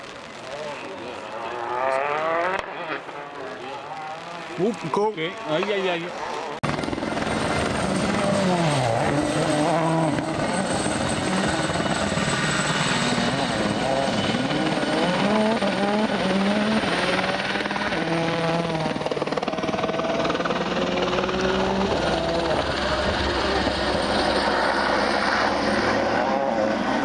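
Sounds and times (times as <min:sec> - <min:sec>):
rally car engine revving: 0:01.2 - 0:04.8, 0:07.4 - 0:27.0.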